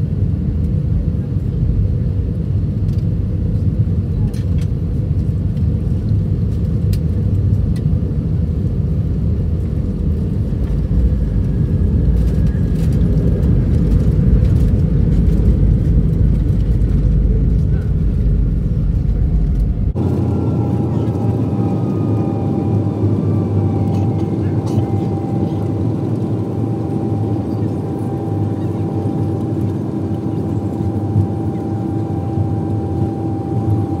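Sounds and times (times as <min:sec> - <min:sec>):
aircraft engine and airflow rumble: 0:00.0 - 0:34.0
steady whine: 0:06.6 - 0:34.0.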